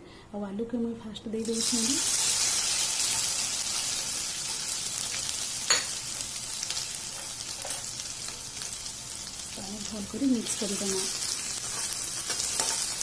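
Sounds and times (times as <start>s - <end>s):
potatoes sizzling in hot oil: 1.4s - 13.0s.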